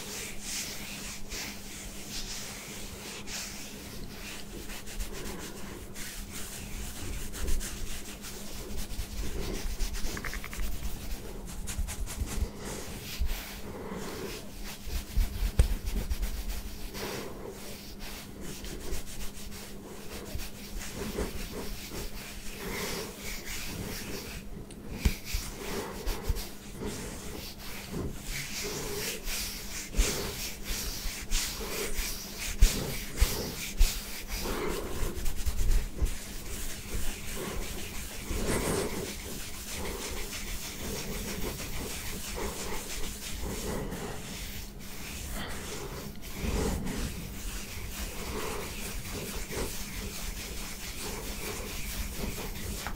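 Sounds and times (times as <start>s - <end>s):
hands rubbing short hair: 0.0s - 52.9s.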